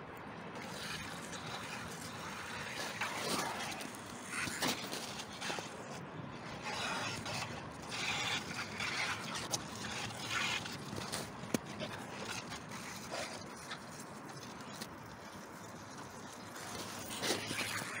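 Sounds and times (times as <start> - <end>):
scraping and rustling of cardboard: 0.6 - 15.2.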